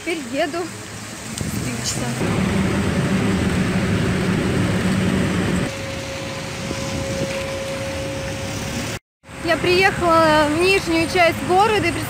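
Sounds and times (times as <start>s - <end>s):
bus engine and road rumble: 0.0s - 12.0s
city traffic on wet street: 0.0s - 12.0s.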